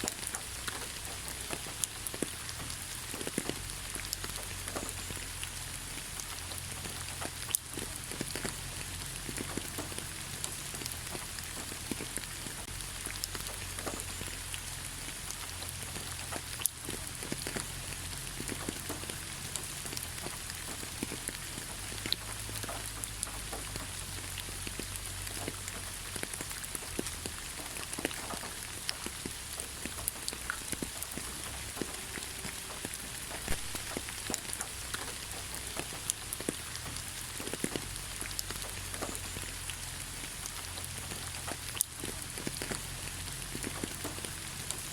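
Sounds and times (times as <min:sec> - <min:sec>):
light rain on leaves: 0:00.0 - 0:44.9.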